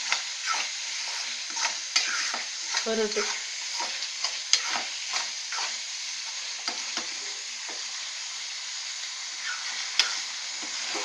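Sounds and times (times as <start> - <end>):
meat and onions sizzling in oil: 0.0 - 11.0.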